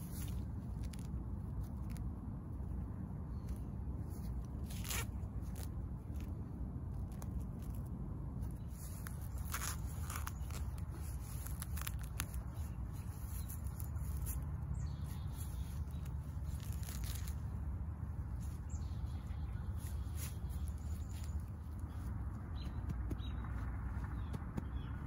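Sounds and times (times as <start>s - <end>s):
grass and weeds being pulled: 0.0s - 23.1s
steady low rumble: 0.0s - 25.0s.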